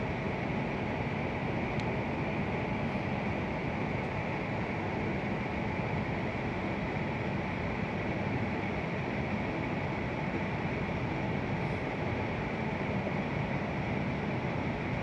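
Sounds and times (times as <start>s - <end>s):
train cabin hum and rumble: 0.0s - 15.0s.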